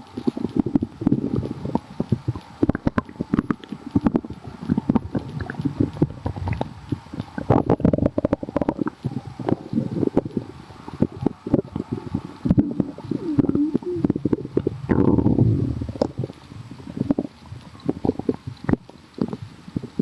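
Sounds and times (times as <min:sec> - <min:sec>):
stomach growling and gurgling: 0:00.0 - 0:20.0.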